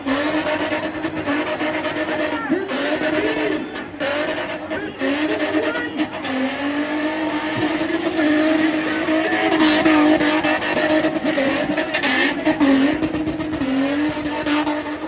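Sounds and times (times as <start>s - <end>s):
car engine revving high: 0.0s - 15.0s.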